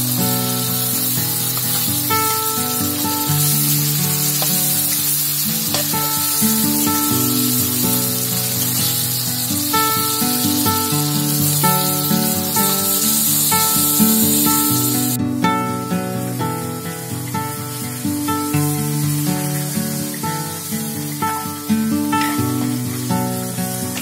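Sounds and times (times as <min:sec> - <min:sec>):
fish sizzling in hot oil: 0:00.0 - 0:15.2, 0:16.3 - 0:24.0.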